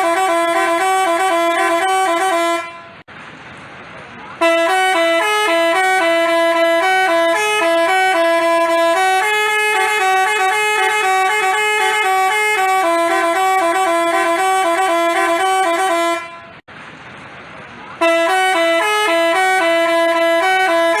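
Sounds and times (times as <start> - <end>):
bus horn playing a tune: 0.0 - 3.1, 4.4 - 16.6, 18.0 - 21.0.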